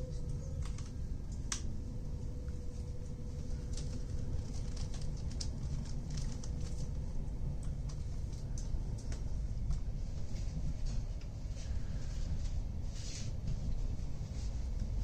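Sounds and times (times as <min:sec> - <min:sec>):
faint steady hum: 0:00.0 - 0:15.0
train running gear rumble: 0:00.0 - 0:15.0.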